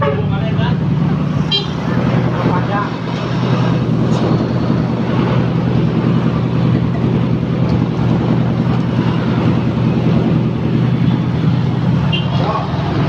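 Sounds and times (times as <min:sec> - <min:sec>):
engine idling with exhaust rumble: 0:00.0 - 0:13.0.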